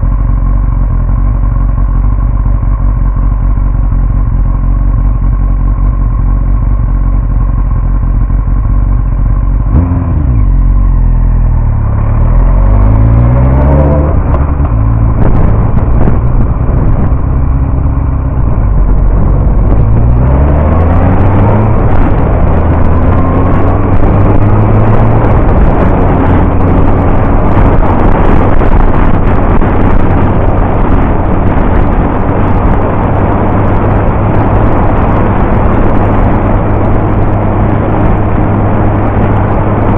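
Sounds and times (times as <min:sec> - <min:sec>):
heavy wind noise: 0:00.0 - 0:39.9
motorcycle engine revving: 0:00.0 - 0:39.9.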